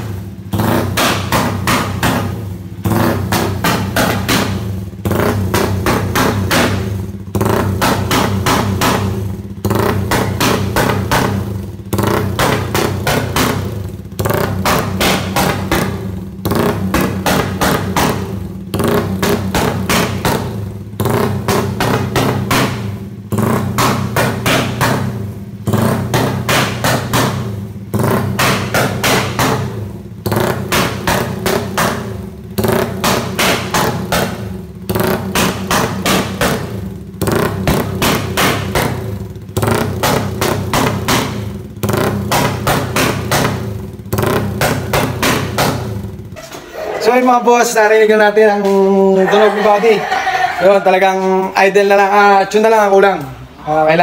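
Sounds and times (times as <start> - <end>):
engine popping and backfiring: 0.0 - 54.0
motorcycle engine revving: 0.0 - 54.0.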